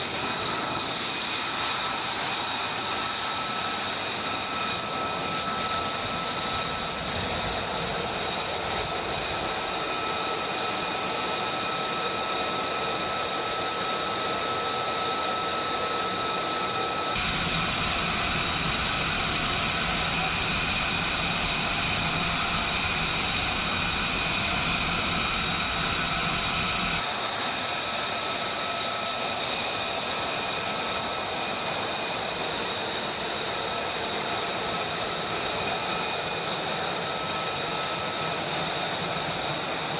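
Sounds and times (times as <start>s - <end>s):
jet engine whining: 0.0s - 39.9s.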